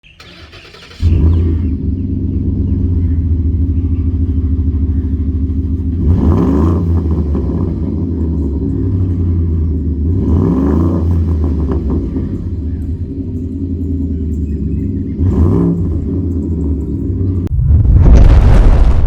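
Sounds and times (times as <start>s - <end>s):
car engine idling and revving: 0.0s - 17.5s.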